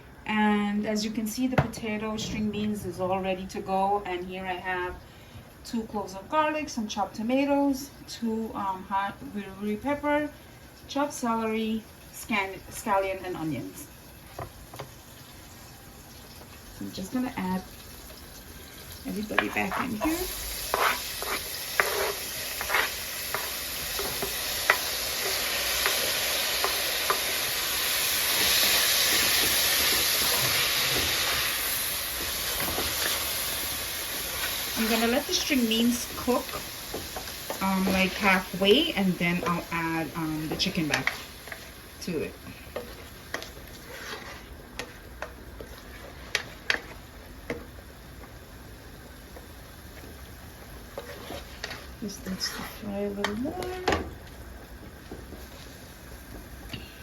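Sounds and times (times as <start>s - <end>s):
vegetables sizzling in oil: 7.4s - 56.7s.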